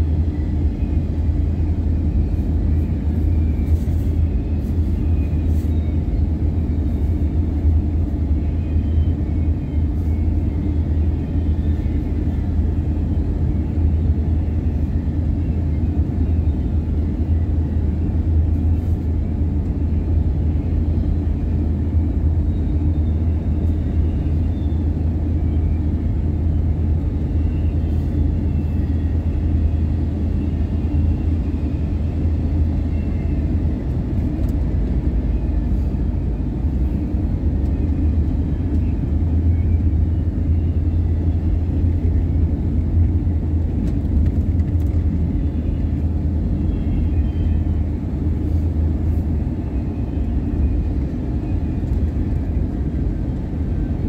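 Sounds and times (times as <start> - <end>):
car driving low rumble: 0.0 - 54.0.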